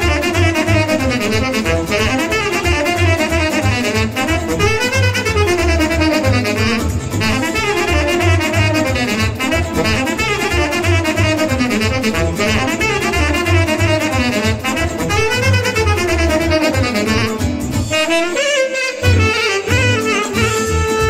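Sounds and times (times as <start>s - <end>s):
bass and drum beat: 0.0s - 21.0s
saxophone dance tune: 0.0s - 21.0s.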